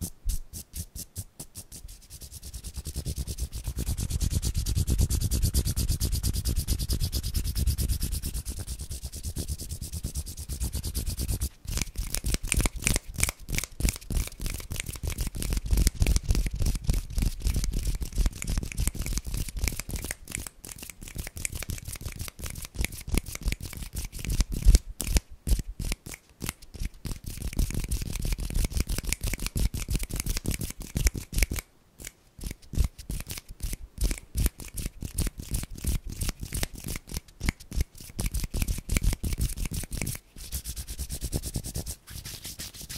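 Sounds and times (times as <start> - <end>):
hands rubbing on microphone: 0.0 - 24.8, 32.4 - 42.9.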